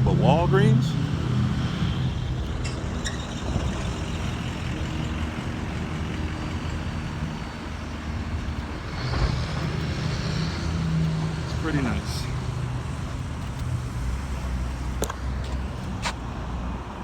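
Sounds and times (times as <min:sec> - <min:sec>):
road noise: 0:00.0 - 0:17.0
vehicle engine rumbling: 0:00.0 - 0:17.0.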